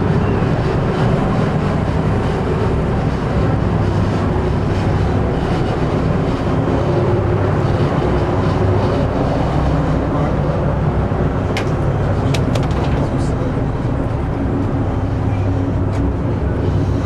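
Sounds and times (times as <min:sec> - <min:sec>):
ferry engines humming: 0:00.0 - 0:17.0.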